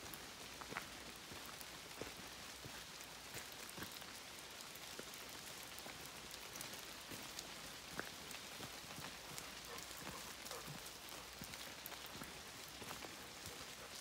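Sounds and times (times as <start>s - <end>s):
light rain hissing: 0.0s - 14.0s
raindrops ticking: 0.0s - 14.0s.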